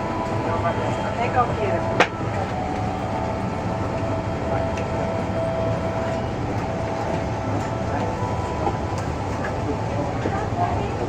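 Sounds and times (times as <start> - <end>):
airliner cabin hum: 0.0 - 11.0
faint voices: 0.0 - 11.0.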